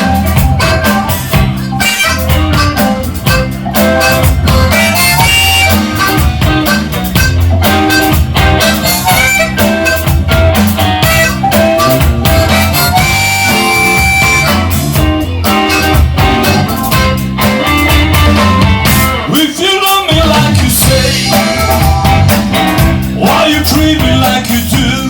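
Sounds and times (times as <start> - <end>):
bass: 0.0 - 25.0
guitar: 0.0 - 25.0
harmonica lead: 0.0 - 25.0
steady drum beat: 0.0 - 25.0.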